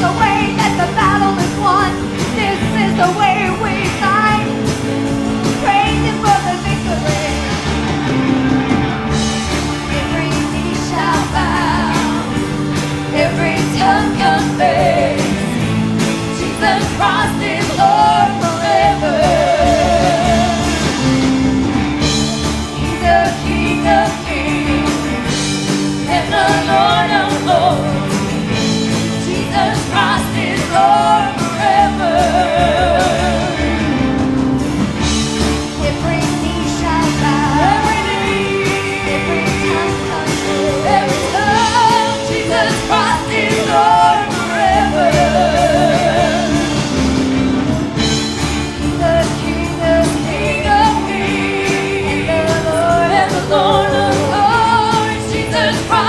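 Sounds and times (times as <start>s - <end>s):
band with drums and chords: 0.0s - 56.0s
singers with vibrato: 0.0s - 56.0s.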